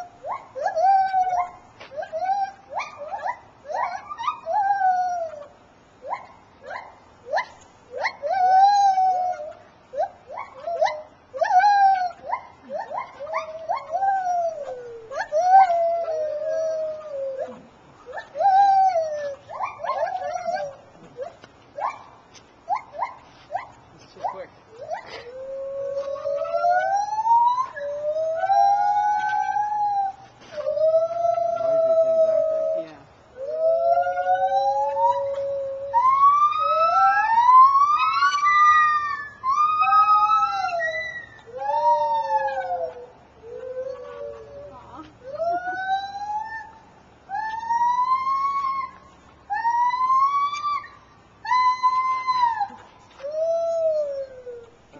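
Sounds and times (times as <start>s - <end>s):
gibbons whooping calls: 0.0s - 54.9s.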